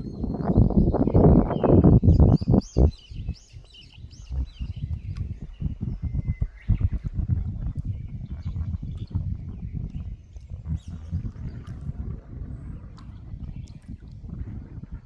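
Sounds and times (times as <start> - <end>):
birds chirping and singing: 0.0 - 15.0
wind buffeting microphone: 0.0 - 15.0.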